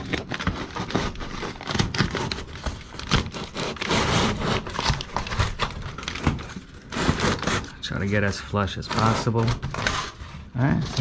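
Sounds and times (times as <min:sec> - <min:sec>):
foil duct crinkling and rustling: 0:00.0 - 0:11.0.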